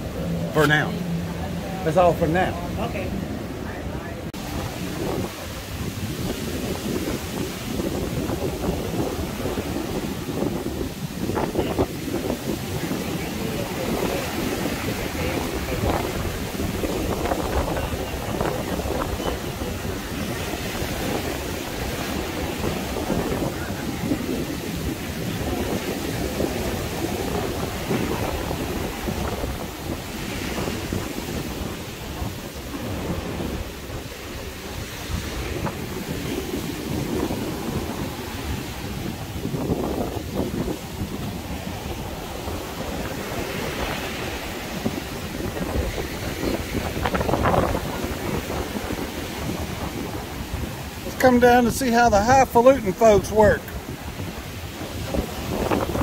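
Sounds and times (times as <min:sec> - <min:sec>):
surf washing: 0:00.0 - 0:56.0
wind buffeting the microphone: 0:00.0 - 0:56.0.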